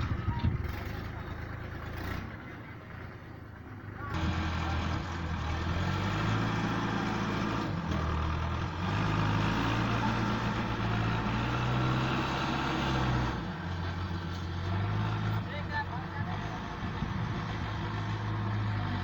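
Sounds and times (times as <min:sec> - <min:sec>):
heavy diesel engine under load: 0:00.0 - 0:19.0.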